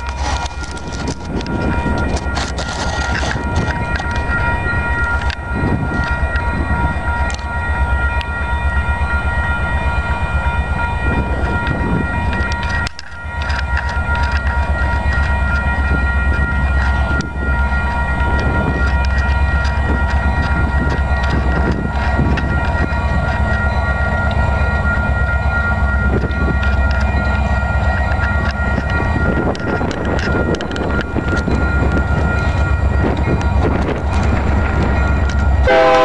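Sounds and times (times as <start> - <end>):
distant diesel locomotives rumbling: 0.0 - 36.0
steady higher tones: 3.4 - 36.0.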